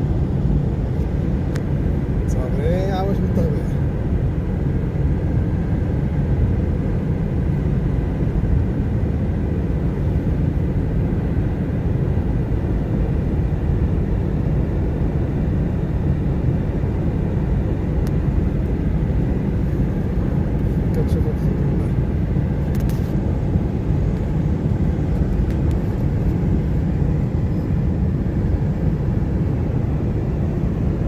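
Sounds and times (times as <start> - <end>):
vehicle road and engine rumble: 0.0 - 31.0.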